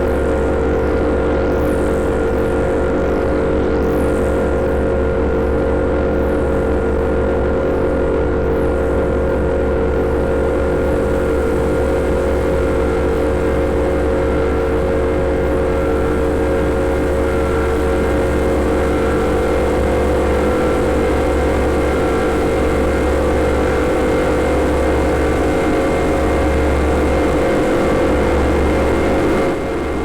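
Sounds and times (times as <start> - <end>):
synthesizer electronic drone: 0.0 - 30.0.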